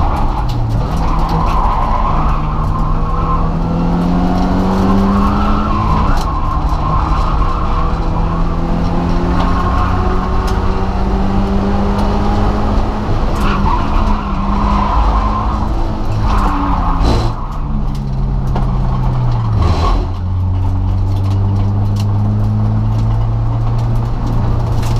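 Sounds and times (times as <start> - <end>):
car engine running: 0.0 - 24.9.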